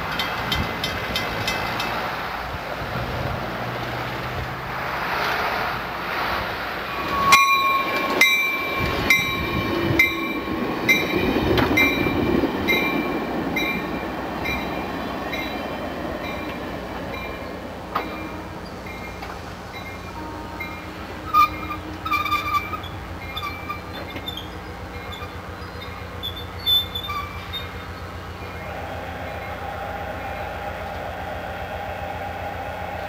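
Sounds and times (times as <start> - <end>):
train wheels clicking over rail joints: 0.0 - 33.0.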